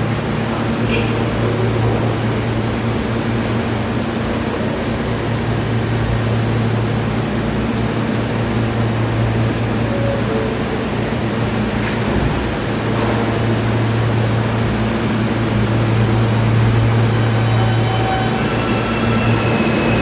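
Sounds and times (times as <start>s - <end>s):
subway train noise: 0.0s - 20.0s.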